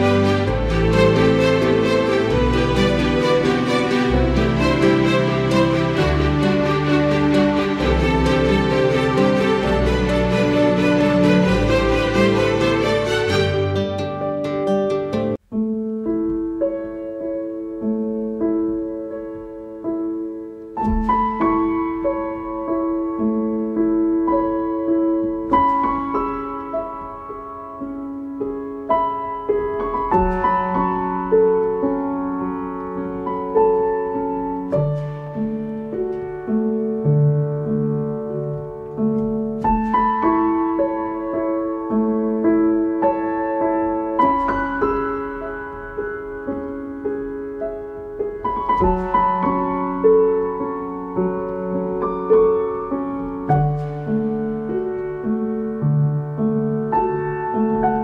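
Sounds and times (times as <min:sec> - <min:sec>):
gentle piano music: 0:00.0 - 0:58.0.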